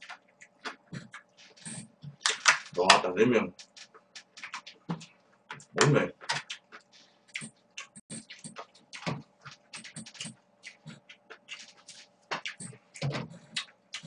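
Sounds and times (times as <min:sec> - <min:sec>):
wet chewing of noodles: 0:00.0 - 0:02.7, 0:03.5 - 0:14.0.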